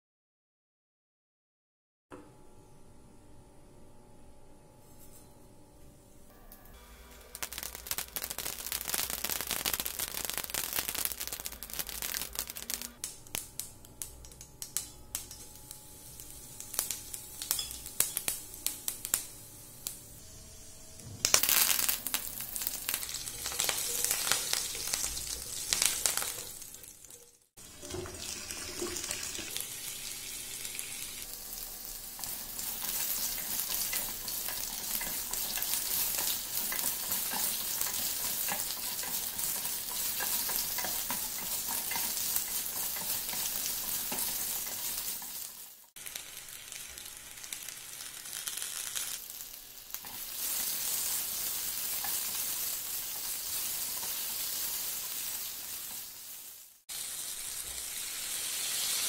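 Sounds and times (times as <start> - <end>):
potato slices sizzling in oil: 6.9 - 59.0.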